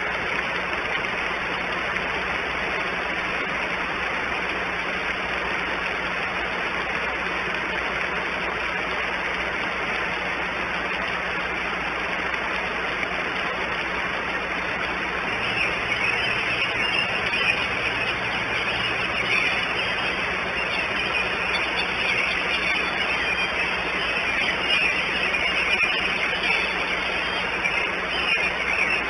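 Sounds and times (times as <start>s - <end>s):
faint low electrical hum: 0.0s - 29.0s
hiss-like outdoor background noise: 0.0s - 29.0s.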